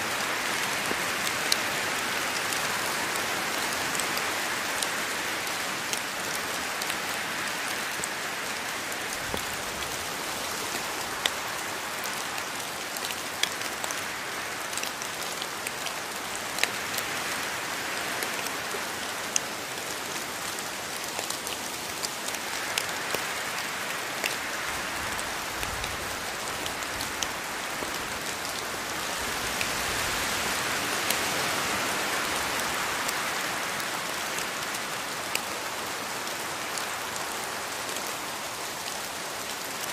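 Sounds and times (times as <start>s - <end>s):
sharp raindrops striking close by: 0.0s - 39.9s
steady rainfall: 0.0s - 39.9s.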